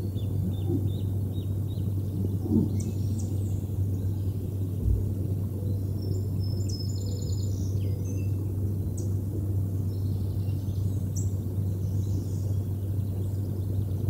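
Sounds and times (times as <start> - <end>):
low hum: 0.0 - 14.0
songbirds chirping and singing: 0.0 - 14.0.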